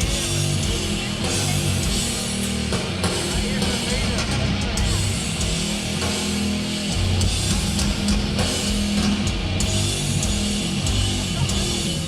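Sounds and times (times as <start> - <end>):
distorted guitar and bass chords: 0.0 - 12.0.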